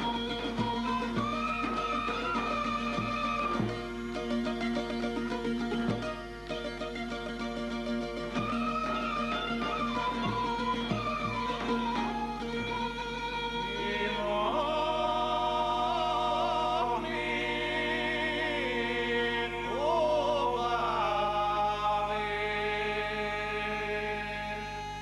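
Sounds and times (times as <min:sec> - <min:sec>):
men singing folk song: 0:00.0 - 0:05.1, 0:08.2 - 0:12.7, 0:13.6 - 0:25.0
instrumental accompaniment: 0:00.0 - 0:25.0.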